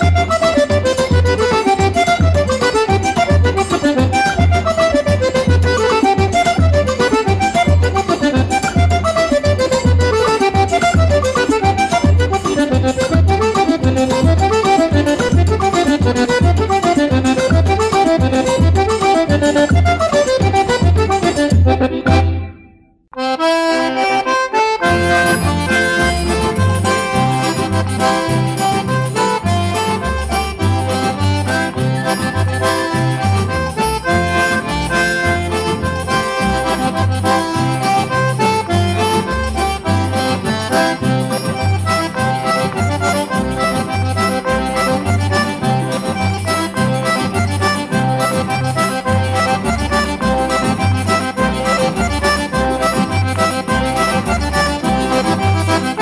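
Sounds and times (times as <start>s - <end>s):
steady beat: 0.0s - 22.5s, 24.8s - 56.0s
accordion playing fast melody: 0.0s - 56.0s
low bass notes: 0.0s - 56.0s.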